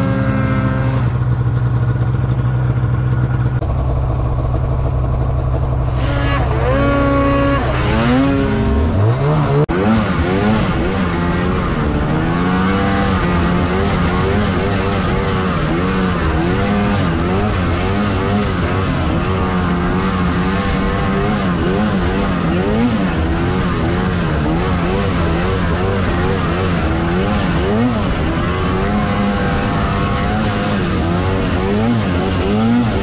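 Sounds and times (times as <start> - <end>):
snowmobile engine revving: 0.0 - 3.7, 4.4 - 33.0.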